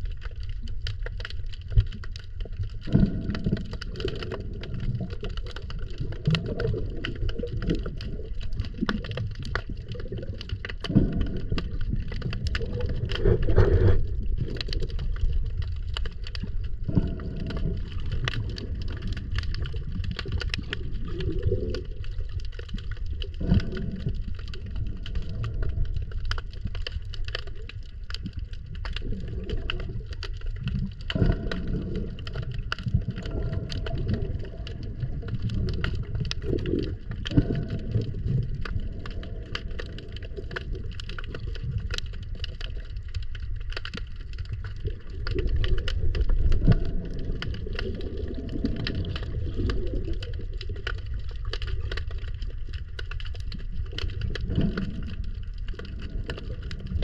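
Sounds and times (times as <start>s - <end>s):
crackle of sharp clicks: 0.0s - 57.0s
underwater bubbling: 0.0s - 57.0s.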